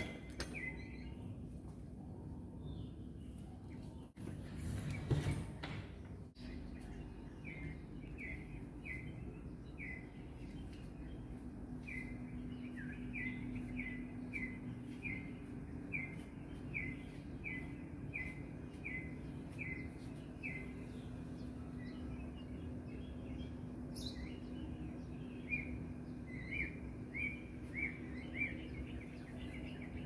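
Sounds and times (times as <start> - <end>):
bird chirping: 0.0 - 1.7, 6.4 - 30.0
low background hum: 0.0 - 30.0.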